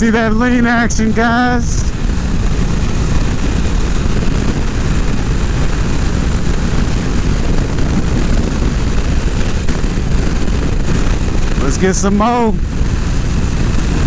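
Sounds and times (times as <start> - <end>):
motorcycle engine drone: 0.0 - 14.0
wind rush on microphone: 0.0 - 14.0.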